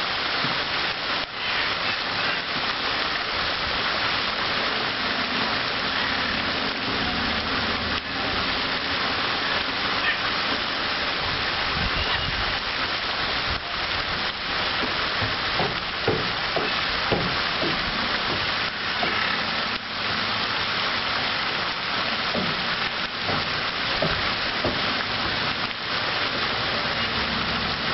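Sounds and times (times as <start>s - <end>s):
fountain splashing onto water: 0.0s - 27.9s.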